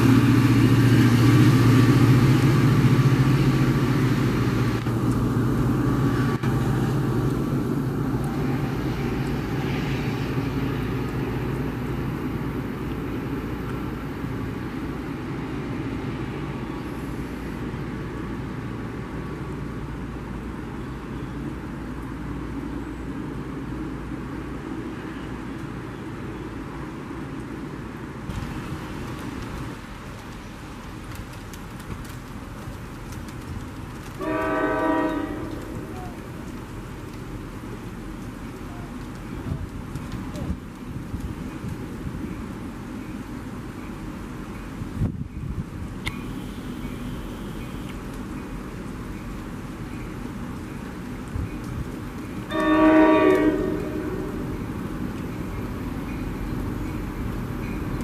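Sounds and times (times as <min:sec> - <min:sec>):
locomotive engine droning: 0:00.0 - 0:58.0.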